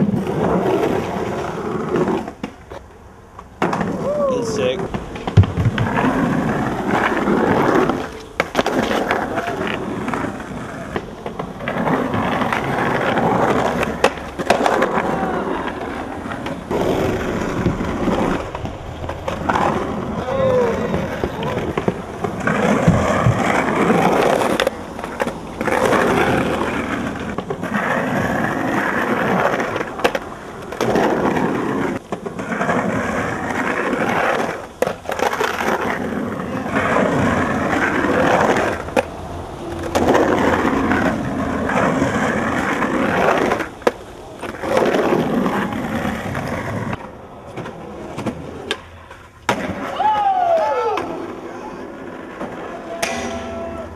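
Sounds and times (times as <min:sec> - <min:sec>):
skateboard clacking on ledges: 0:00.0 - 0:53.9
skateboard wheels rolling on concrete: 0:00.0 - 0:53.9.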